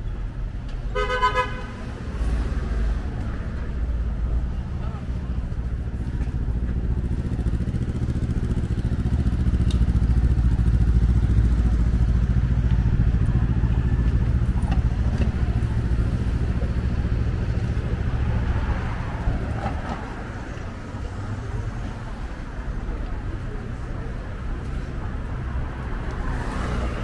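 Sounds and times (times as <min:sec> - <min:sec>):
large vehicle engine running: 0:02.6 - 0:27.0.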